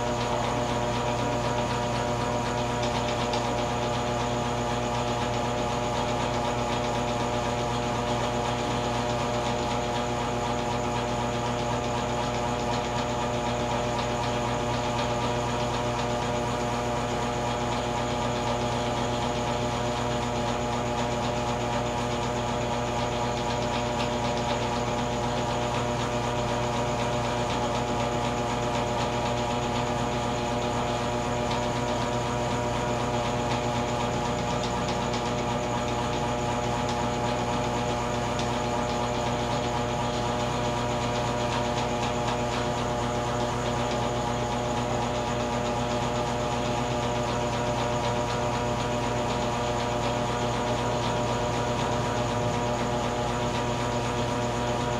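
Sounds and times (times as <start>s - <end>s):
steady mechanical hum: 0.0s - 54.9s.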